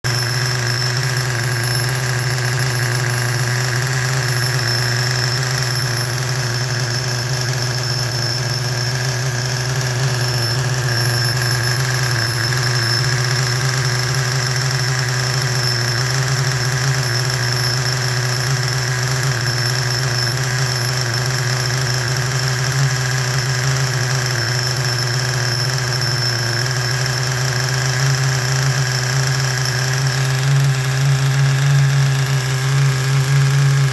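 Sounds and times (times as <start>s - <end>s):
small model engine idling: 0.0s - 33.9s
thin high whine: 0.0s - 33.9s.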